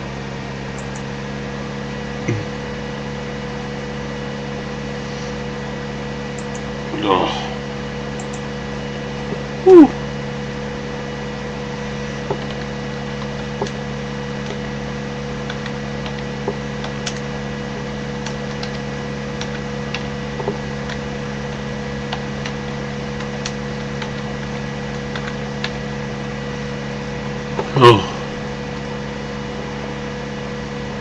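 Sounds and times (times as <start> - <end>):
steady hum with tones: 0.0 - 31.0.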